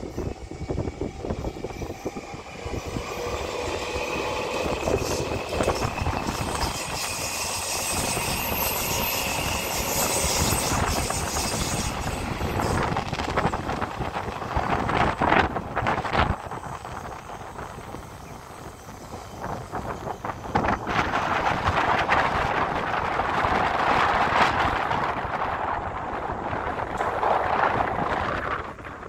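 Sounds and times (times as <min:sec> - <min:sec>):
electric train running past: 0:00.0 - 0:29.0.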